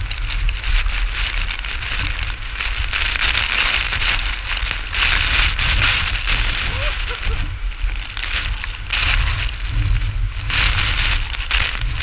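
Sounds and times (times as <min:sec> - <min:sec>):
falling water spattering: 0:00.0 - 0:12.0
low rumble of waterfall: 0:00.0 - 0:12.0.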